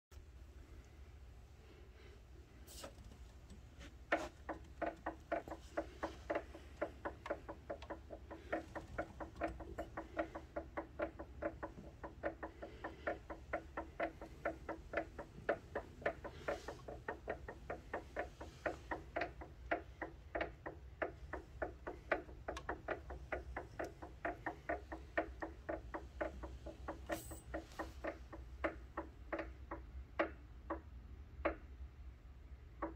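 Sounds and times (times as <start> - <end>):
low steady hum: 0.1 - 32.9
elliptical trainer clicking: 2.7 - 31.9.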